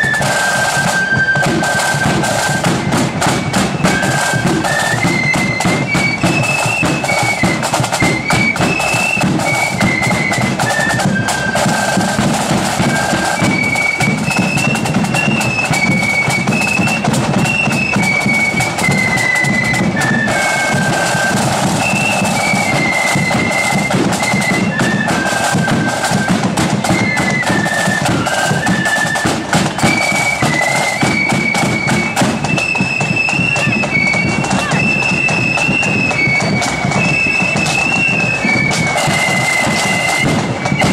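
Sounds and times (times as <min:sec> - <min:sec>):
drums keeping the beat: 0:00.0 - 0:40.9
flute band playing: 0:00.0 - 0:40.9.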